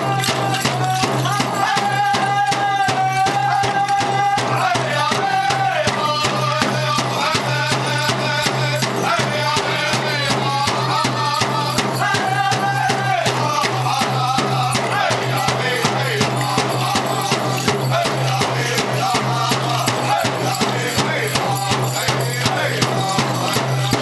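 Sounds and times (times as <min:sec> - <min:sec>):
dancers' bells rattling: 0:00.0 - 0:24.0
drum beaten fast: 0:00.0 - 0:24.0
group chanting high lines: 0:00.0 - 0:24.0.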